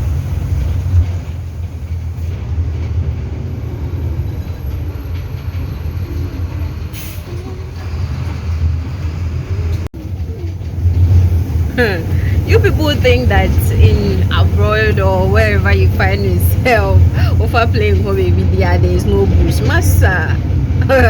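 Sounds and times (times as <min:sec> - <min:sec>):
bus engine rumble: 0:00.0 - 0:21.0
road noise: 0:00.0 - 0:21.0.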